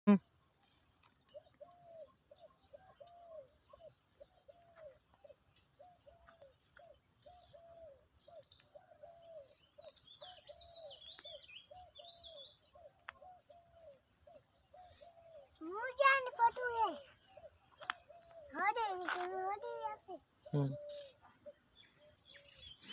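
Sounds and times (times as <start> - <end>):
bird twittering song: 0.1 - 22.9.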